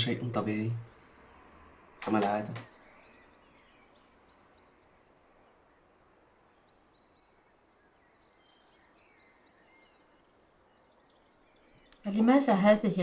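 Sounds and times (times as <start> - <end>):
faint high bird chirps: 2.4 - 13.0.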